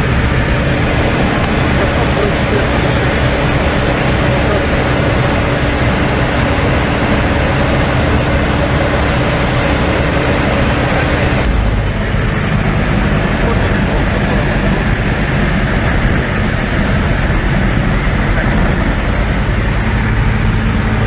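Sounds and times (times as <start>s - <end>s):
airplane engine and propeller drone: 0.0s - 21.0s
steady hum: 0.0s - 21.0s.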